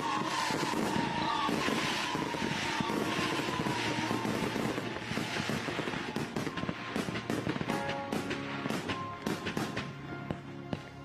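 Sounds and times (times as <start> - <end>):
descending firework whistle: 0.0 - 9.9
fireworks crackling and popping: 0.0 - 11.0.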